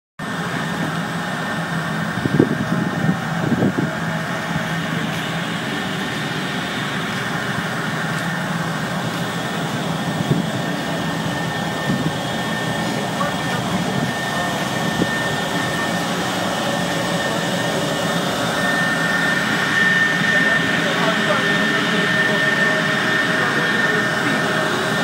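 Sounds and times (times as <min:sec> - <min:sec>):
faint high whine: 0:00.2 - 0:25.0
machinery humming: 0:00.2 - 0:25.0.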